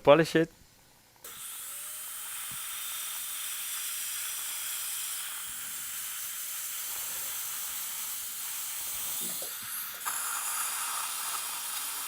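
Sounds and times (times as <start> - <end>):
dental handpiece whining hiss: 1.2 - 12.0.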